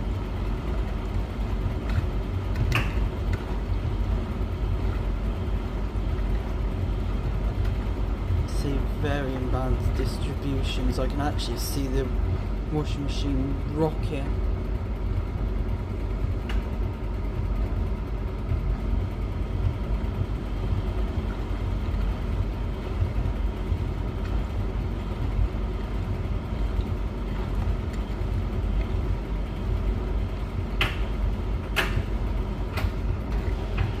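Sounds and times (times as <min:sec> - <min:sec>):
washing machine rumbling: 0:00.0 - 0:34.0.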